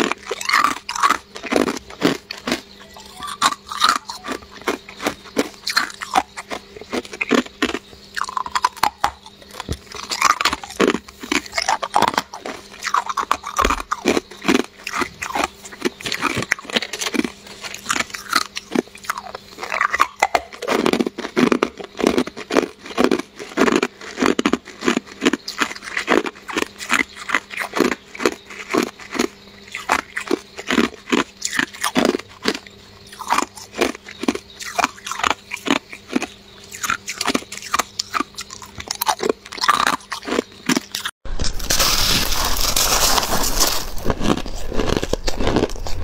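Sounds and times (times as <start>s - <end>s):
ice being chewed: 0.0s - 46.0s.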